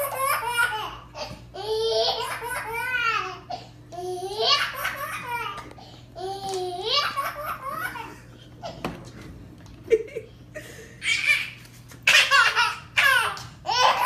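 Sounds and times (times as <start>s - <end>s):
baby laughing: 0.0s - 8.8s, 11.0s - 14.0s.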